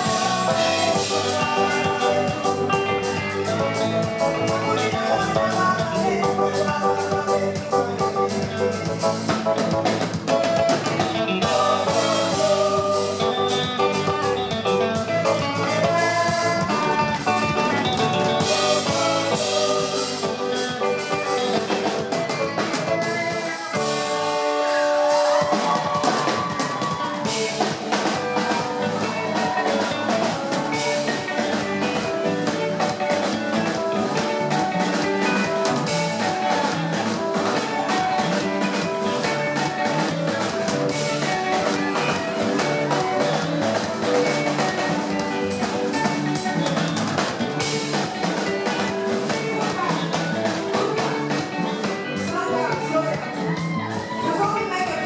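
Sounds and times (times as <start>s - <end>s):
drum kit: 0.0s - 55.0s
live afro-soul band playing: 0.0s - 55.0s.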